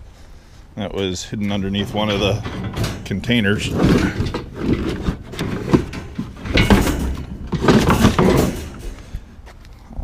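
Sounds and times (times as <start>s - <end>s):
metal junk clattering and scraping: 1.3s - 9.4s.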